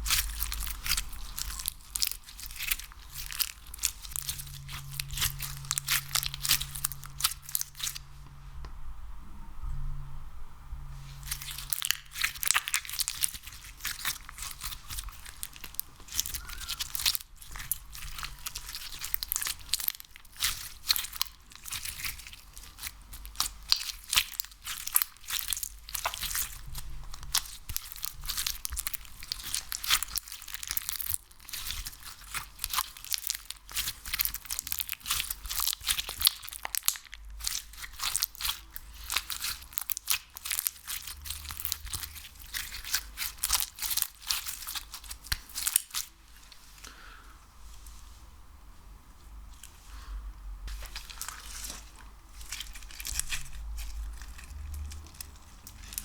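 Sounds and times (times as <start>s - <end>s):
sticky material crackling and crunching: 0.0s - 8.2s, 11.1s - 46.9s, 50.6s - 56.0s.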